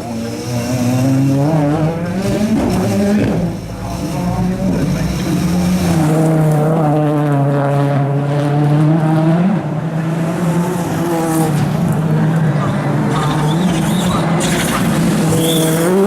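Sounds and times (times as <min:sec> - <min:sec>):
rally car engine running hard: 0:00.0 - 0:16.0.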